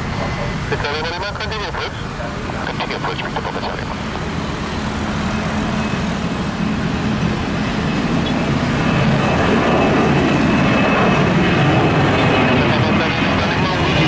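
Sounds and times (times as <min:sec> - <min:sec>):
jet airliner engines roaring: 0:00.0 - 0:14.0.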